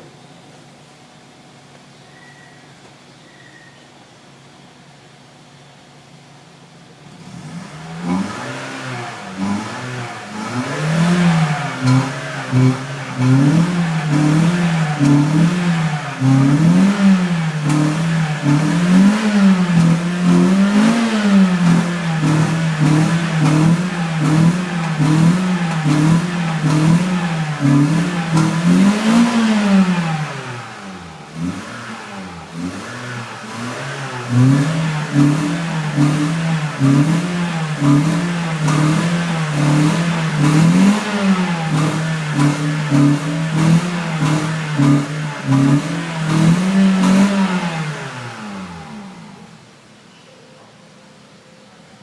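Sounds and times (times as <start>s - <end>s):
car engine revving: 7.0s - 49.9s.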